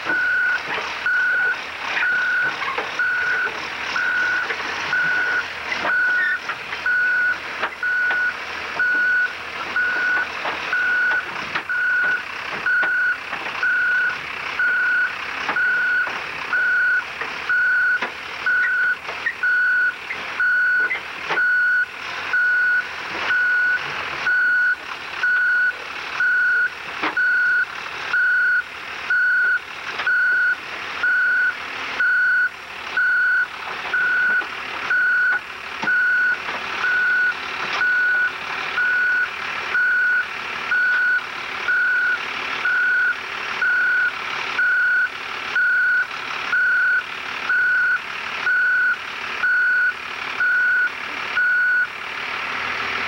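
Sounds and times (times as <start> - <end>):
snowcat engine running: 0.0 - 53.0
backup alarm beeping: 0.1 - 51.9.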